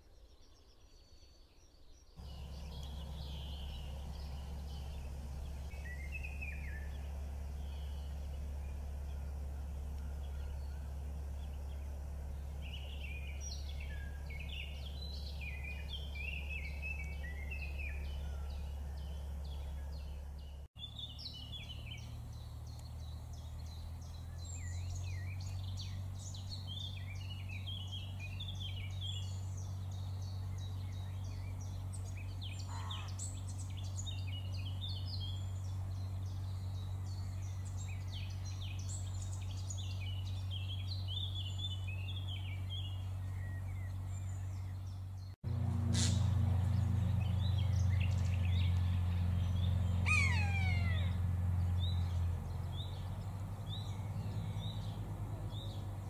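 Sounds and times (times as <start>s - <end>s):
small birds chirping: 0.0s - 56.0s
steady low hum: 2.2s - 56.0s.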